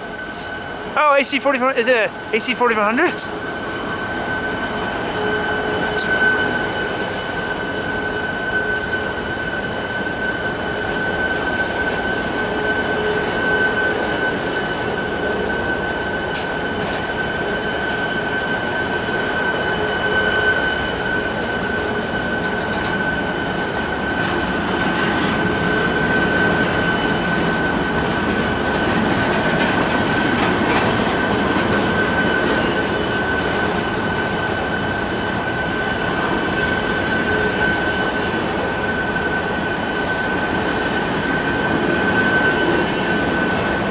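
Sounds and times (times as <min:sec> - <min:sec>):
high-pitched whine: 0:00.0 - 0:43.9
train rumbling on rails: 0:00.0 - 0:43.9.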